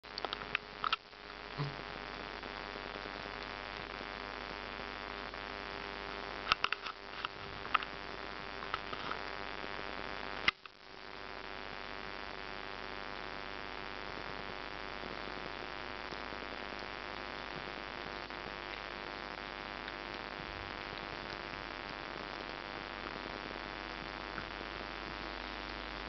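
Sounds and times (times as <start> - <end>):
low hum and hiss: 0.0 - 26.0.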